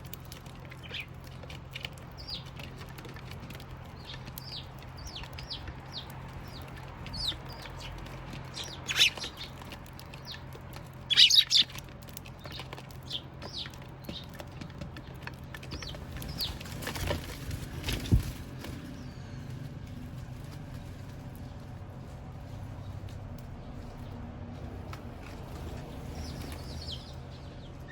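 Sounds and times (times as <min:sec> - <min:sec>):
sparrows chirping: 0:00.0 - 0:27.9.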